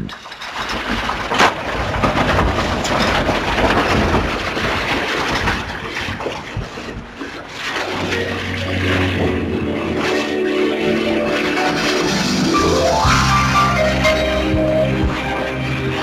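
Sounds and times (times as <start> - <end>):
rushing sea: 0.0 - 16.0
wave crashing against boat: 0.6 - 16.0.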